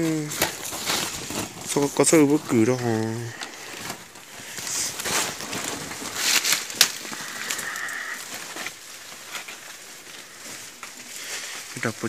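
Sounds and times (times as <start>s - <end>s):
leaves and twigs crackling underfoot: 0.0s - 12.0s.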